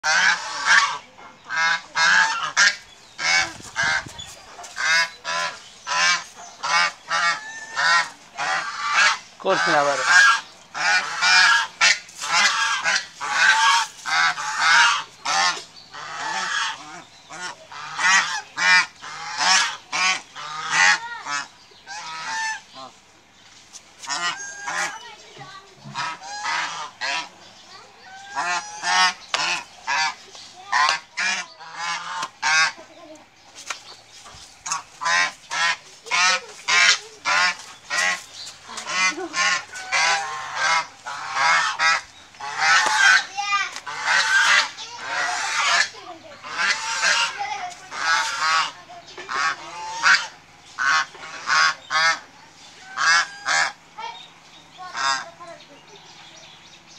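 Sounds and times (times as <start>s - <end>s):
geese honking: 0.0s - 23.4s, 24.0s - 56.9s.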